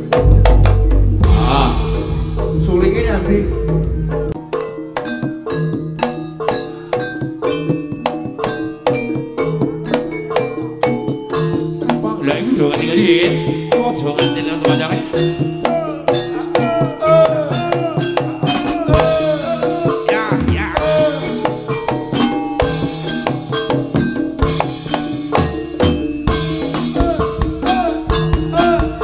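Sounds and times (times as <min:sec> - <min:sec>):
drums and percussion beat: 0:00.0 - 0:29.0.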